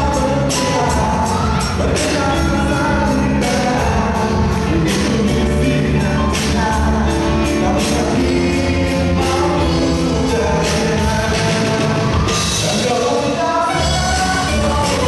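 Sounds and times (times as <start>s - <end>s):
band playing pop song: 0.0s - 15.0s
person singing: 0.0s - 15.0s.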